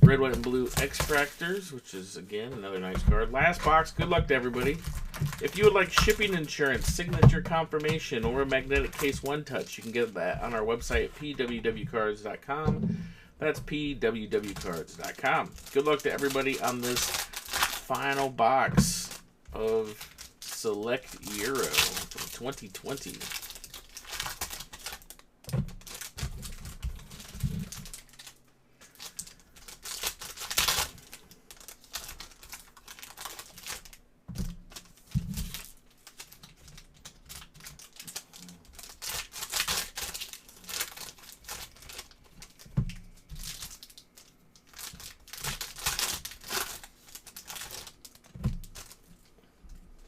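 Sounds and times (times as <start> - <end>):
plastic wrapping tearing and crumpling: 0.0 - 1.7, 2.8 - 12.2, 13.5 - 49.4.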